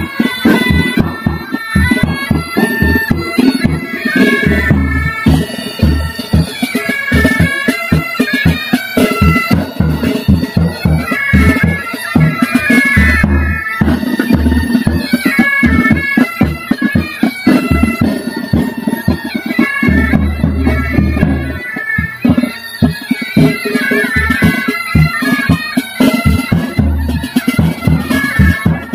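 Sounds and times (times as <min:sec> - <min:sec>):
side drums and bass drums: 0:00.0 - 0:19.3, 0:19.9 - 0:28.9
bagpipes: 0:00.0 - 0:28.9.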